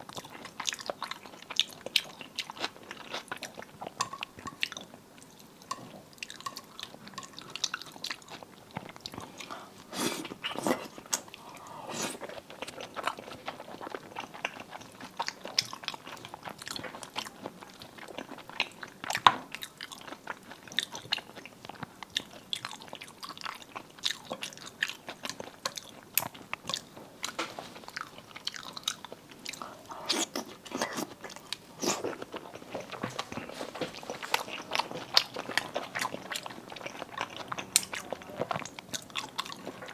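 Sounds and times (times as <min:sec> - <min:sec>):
person chewing seafood: 0:00.0 - 0:39.9.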